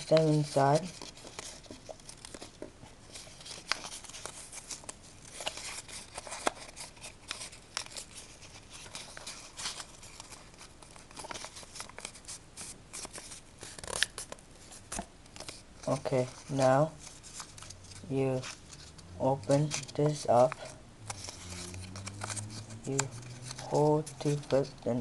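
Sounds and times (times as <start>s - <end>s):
paper folding and crinkling: 0.0s - 25.0s.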